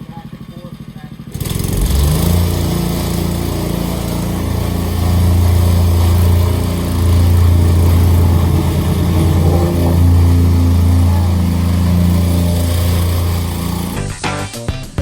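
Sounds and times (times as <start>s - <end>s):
plate compactor engine droning: 0.0s - 14.2s.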